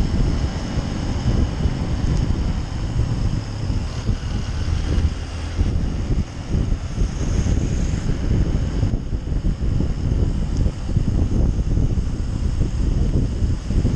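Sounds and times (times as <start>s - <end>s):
motorcycle engine running: 0.0s - 13.9s
wind buffeting microphone: 0.0s - 13.9s.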